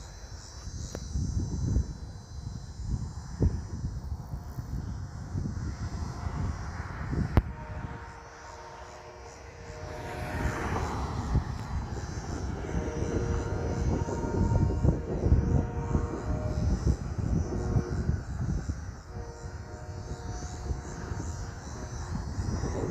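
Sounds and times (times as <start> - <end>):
freight train rumbling past: 4.4 - 22.9.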